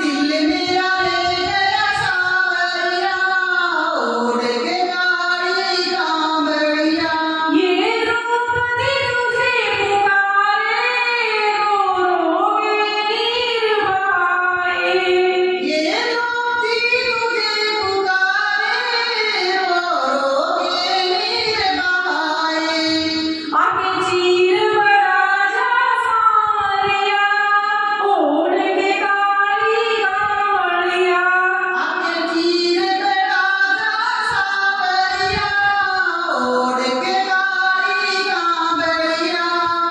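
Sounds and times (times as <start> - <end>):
woman singing devotional song: 0.0 - 39.9.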